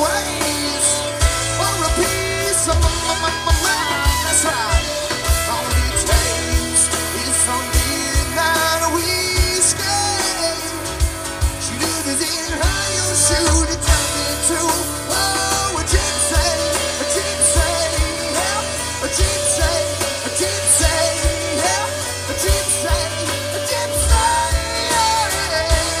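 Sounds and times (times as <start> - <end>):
country rock band playing: 0.0 - 26.0
drums beating: 0.0 - 26.0.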